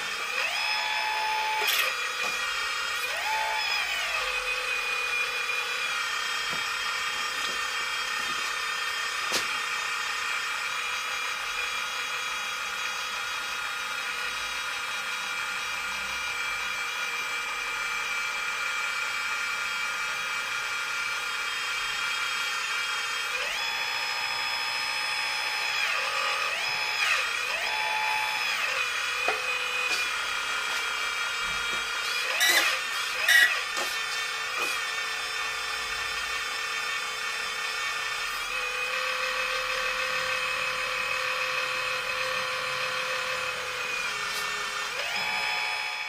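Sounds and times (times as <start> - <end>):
electric hydraulic pump whining: 0.0 - 46.0.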